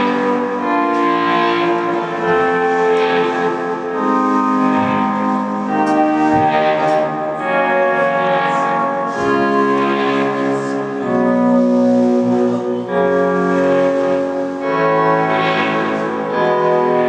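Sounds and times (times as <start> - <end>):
distorted electric guitars: 0.0 - 17.0.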